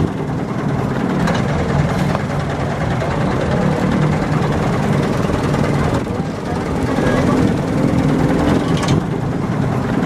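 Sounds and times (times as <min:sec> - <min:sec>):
dump truck engine running: 0:00.0 - 0:10.0.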